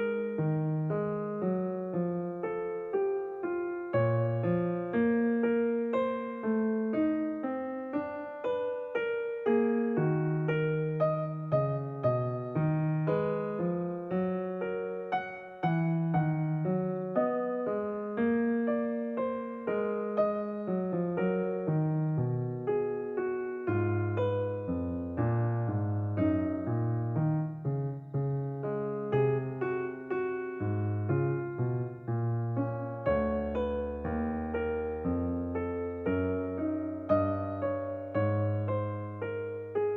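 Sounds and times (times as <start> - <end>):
slow piano music: 0.0 - 39.9.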